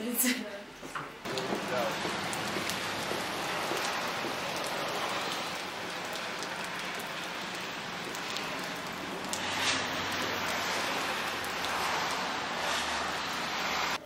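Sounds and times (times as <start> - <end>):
individual raindrops ticking: 0.9 - 13.9
steady rain on wet pavement: 1.1 - 14.0.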